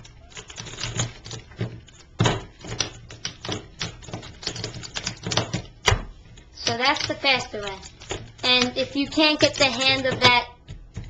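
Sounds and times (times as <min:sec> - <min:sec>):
plastic puzzle tiles clicking: 0:00.0 - 0:11.0.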